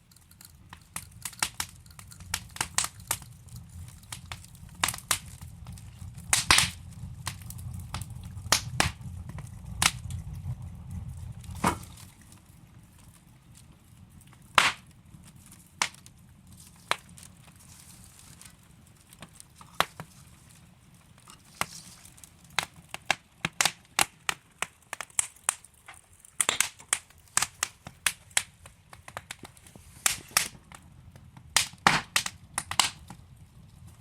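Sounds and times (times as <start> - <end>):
wood fire crackling in fireplace: 0.0 - 34.0.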